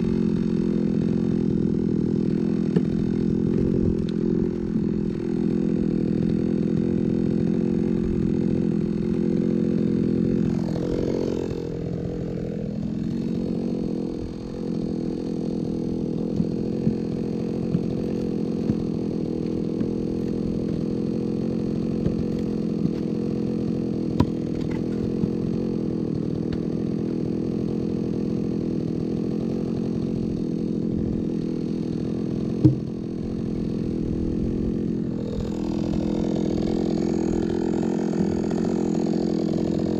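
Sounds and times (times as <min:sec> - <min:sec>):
chainsaw engine idling: 0:00.0 - 0:39.9.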